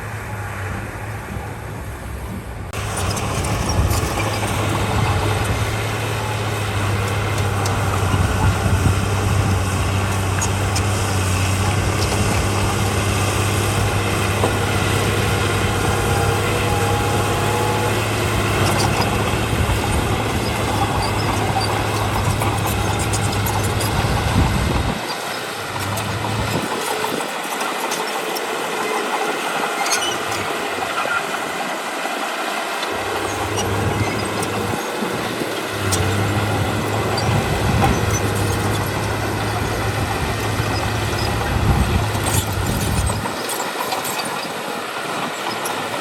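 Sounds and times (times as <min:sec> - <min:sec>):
heavy machinery engine hum: 0:00.0 - 0:46.0.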